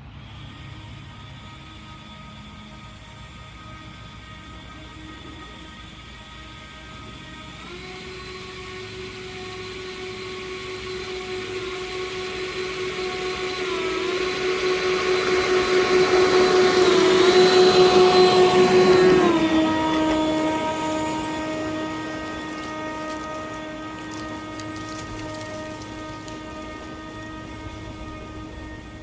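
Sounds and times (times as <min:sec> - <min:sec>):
flat car rolling on track: 0:00.0 - 0:29.0
leaf blowers running: 0:00.0 - 0:29.0.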